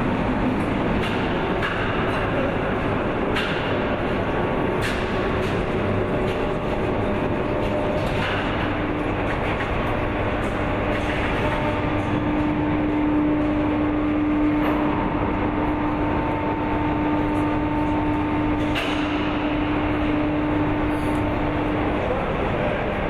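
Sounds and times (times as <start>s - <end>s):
industrial machine hum: 0.0s - 23.0s.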